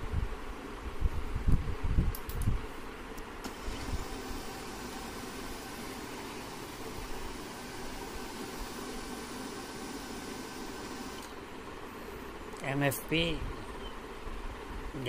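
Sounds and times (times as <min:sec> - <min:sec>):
printer fan hum: 0:02.6 - 0:15.0.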